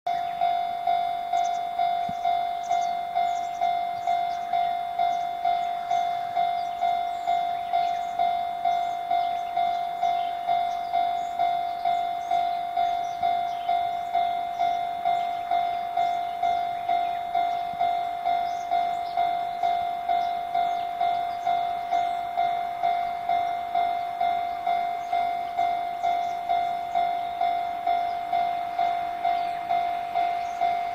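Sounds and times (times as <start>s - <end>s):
level-crossing warning bell clanging: 0.1s - 30.9s.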